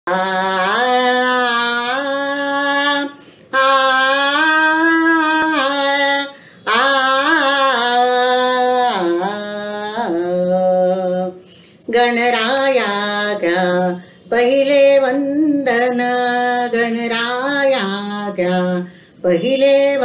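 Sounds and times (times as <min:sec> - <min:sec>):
woman singing unaccompanied: 0:00.1 - 0:20.0.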